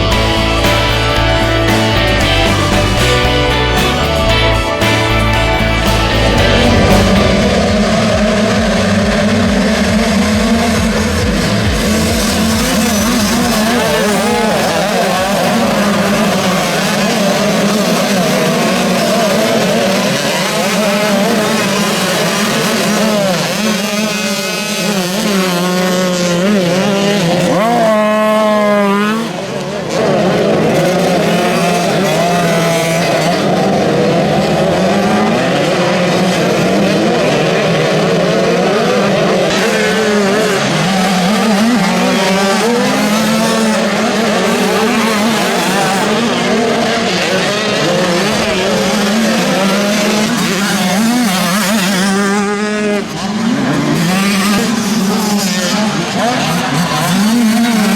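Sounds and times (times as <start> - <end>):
motocross bikes revving and passing: 0.0 - 57.9.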